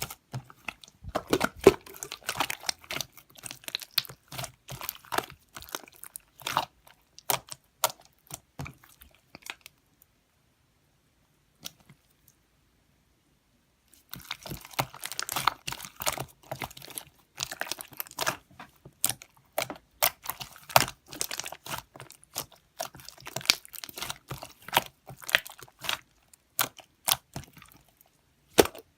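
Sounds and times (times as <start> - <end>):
crunching and crackling: 0.0 - 9.7, 14.0 - 28.9.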